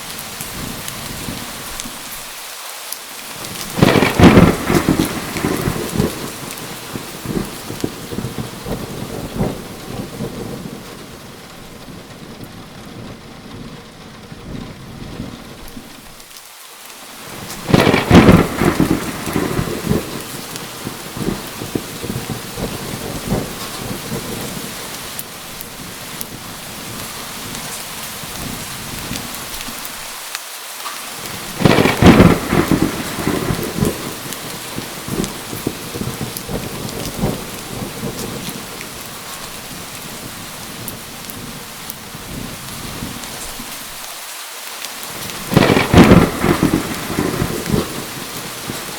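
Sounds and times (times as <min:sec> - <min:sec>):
thunder claps and rumbles: 0:00.0 - 0:02.1, 0:03.4 - 0:16.2, 0:17.3 - 0:30.0, 0:31.2 - 0:44.0, 0:45.1 - 0:48.9
steady rain falling: 0:00.0 - 0:48.9.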